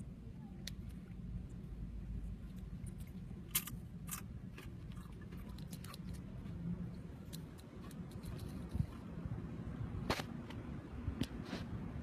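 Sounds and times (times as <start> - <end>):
low rumble in car cabin: 0.0 - 12.0.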